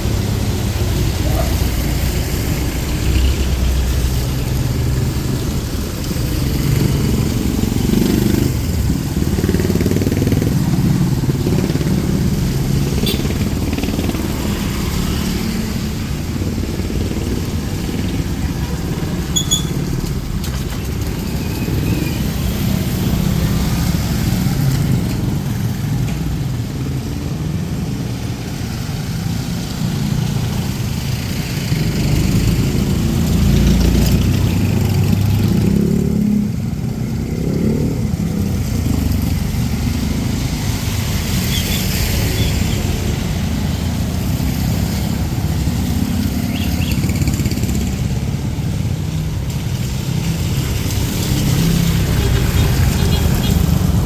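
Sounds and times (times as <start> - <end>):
motorcycles passing: 0.0 - 54.0.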